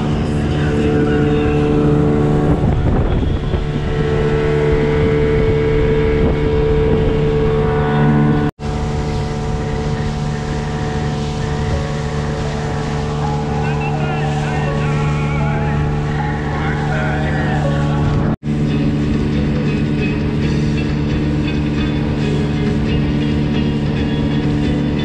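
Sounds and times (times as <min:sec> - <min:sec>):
outboard motor running: 0:00.0 - 0:25.0
wind on microphone: 0:00.0 - 0:25.0.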